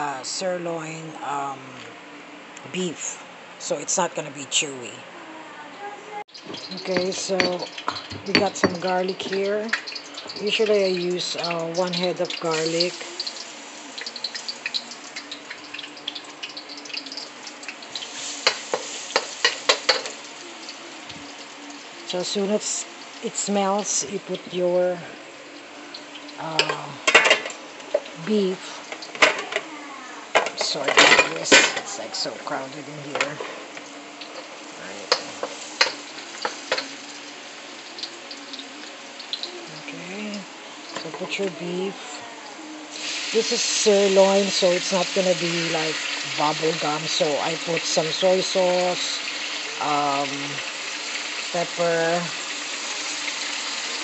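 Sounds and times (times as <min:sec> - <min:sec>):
garlic sizzling in oil: 0:06.1 - 0:54.0.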